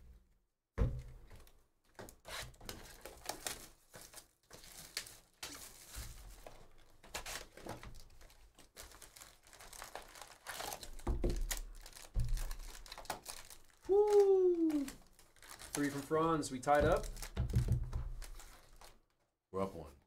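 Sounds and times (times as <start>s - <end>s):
foil packs crinkling: 2.7s - 19.0s.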